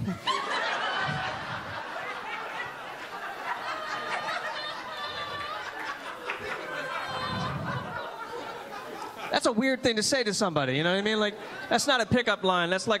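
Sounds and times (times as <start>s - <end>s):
audience laughing: 0.0s - 10.0s, 10.7s - 13.0s.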